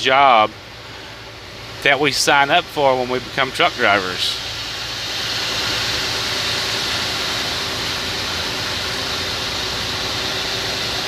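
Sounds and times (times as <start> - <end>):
engine and tire rumble: 0.0 - 11.0
tire spray hiss: 0.7 - 11.0.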